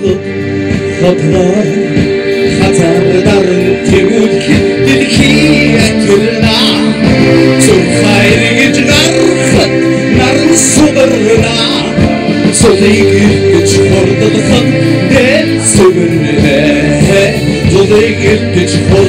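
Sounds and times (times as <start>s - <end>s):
live rock band playing: 0.0s - 19.0s
man singing: 0.0s - 19.0s.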